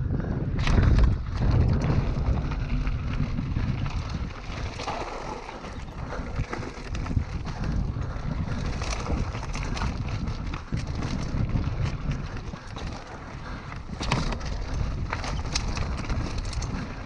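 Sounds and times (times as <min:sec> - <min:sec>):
bike clicks and rattles: 0:00.0 - 0:17.0
wind noise on microphone: 0:00.0 - 0:17.0
tyres rolling over loose stones: 0:00.8 - 0:17.0.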